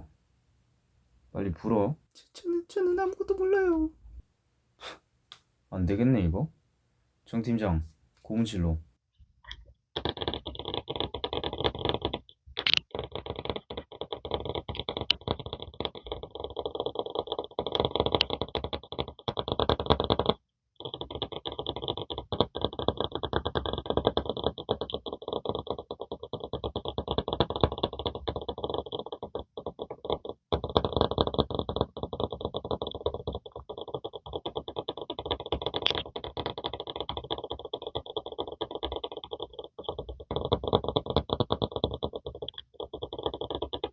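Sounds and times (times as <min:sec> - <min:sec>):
fingers tapping and scratching microphone: 0:01.6 - 0:04.3, 0:09.4 - 0:43.9.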